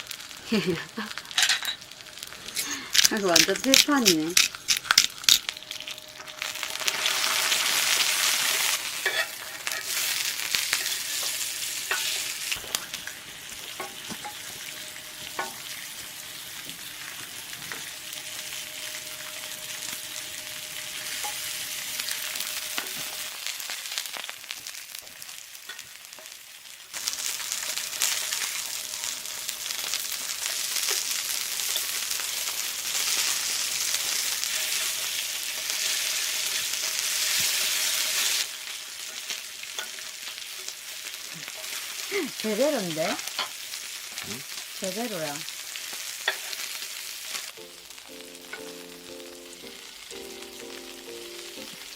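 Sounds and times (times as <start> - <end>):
food sizzling in a frying pan: 0.0 - 51.9.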